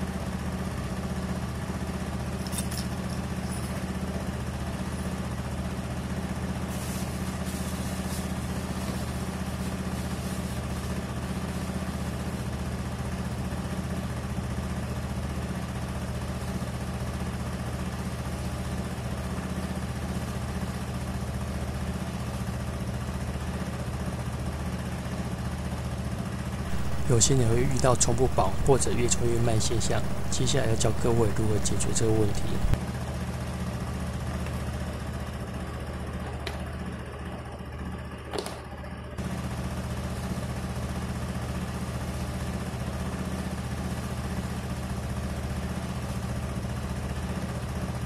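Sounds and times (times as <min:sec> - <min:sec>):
scooter engine idling: 0:04.0 - 0:48.0.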